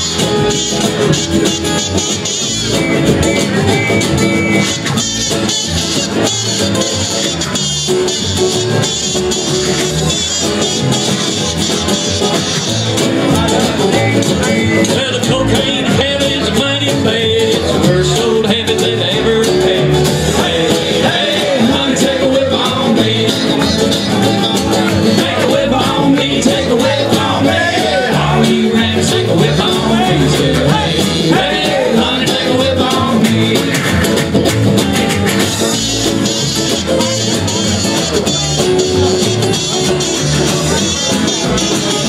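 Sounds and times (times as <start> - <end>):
banjo: 0.0 - 42.0
strummed acoustic guitar: 0.0 - 42.0.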